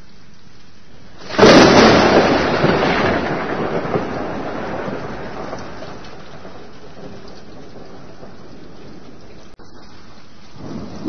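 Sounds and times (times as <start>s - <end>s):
steady rain: 0.0s - 11.0s
thunder clap rumbling: 1.2s - 9.9s, 10.5s - 11.0s.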